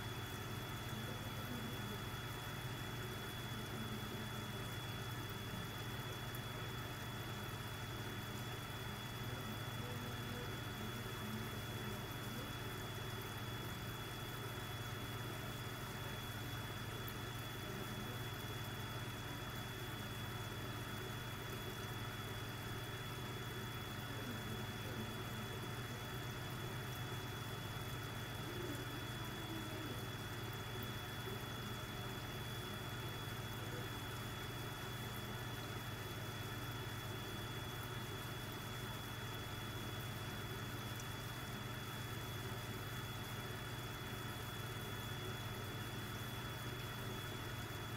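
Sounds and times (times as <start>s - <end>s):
air pump humming: 0.0s - 47.9s.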